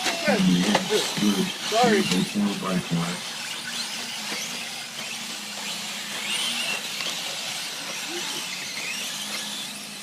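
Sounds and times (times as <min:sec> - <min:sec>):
rc truck motors whining: 0:00.0 - 0:10.0.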